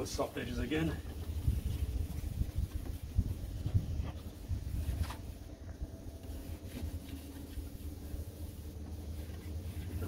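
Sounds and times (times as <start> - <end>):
sandpaper rubbing on plastic: 0.2 - 5.2, 6.2 - 10.0
low rumble: 1.0 - 10.0.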